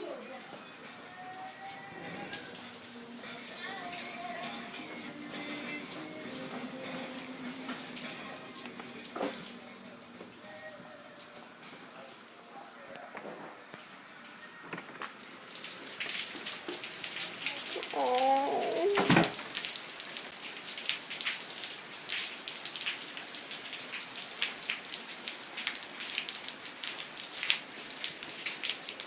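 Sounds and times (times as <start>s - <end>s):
pouring rain: 0.0s - 12.2s, 13.8s - 29.0s
raindrops pattering near microphone: 0.0s - 29.0s.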